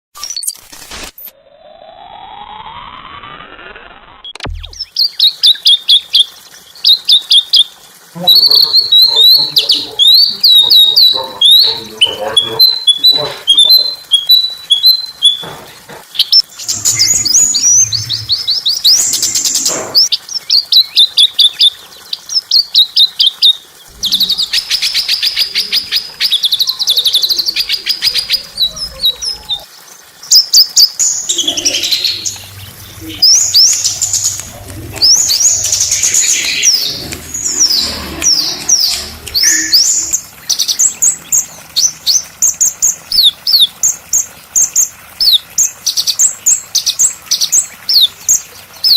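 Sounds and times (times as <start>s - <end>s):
songbirds chirping and trilling: 4.6s - 48.9s.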